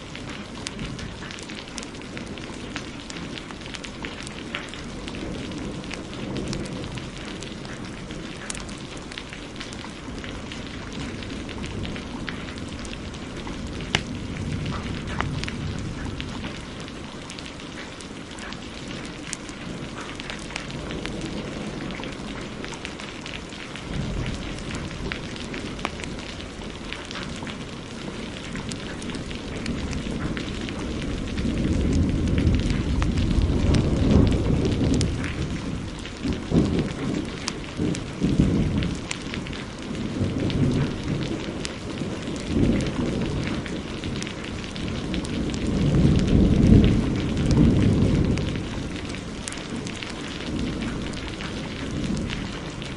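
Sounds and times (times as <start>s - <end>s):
heavy rain: 0.0s - 52.9s
thunder rumbling: 0.0s - 52.9s
wood fire crackling: 0.0s - 52.9s.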